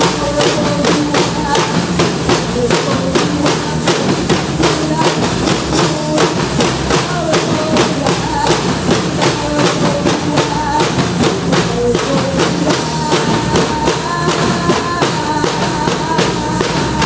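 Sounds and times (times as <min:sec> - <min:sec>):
drums keeping quick beat: 0:00.0 - 0:17.0
held melody line: 0:00.0 - 0:17.0.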